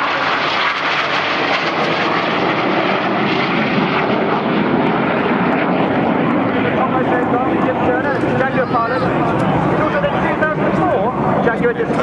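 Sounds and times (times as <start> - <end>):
jets flying over: 0.0 - 12.0.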